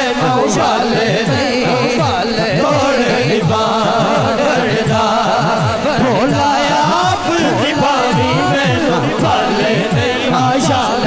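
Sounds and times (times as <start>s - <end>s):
low rhythmic backing: 0.0s - 11.0s
person singing devotional melody: 0.0s - 11.0s.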